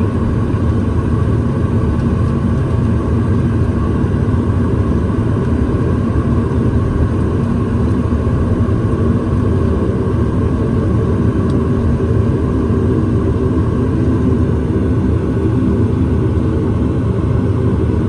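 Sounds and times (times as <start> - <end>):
airliner engines rumbling in cabin: 0.0 - 18.0.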